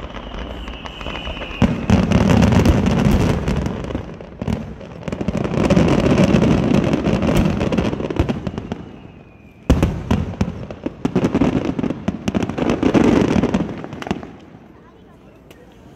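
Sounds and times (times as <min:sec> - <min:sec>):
fireworks bangs and crackle: 0:00.0 - 0:15.5.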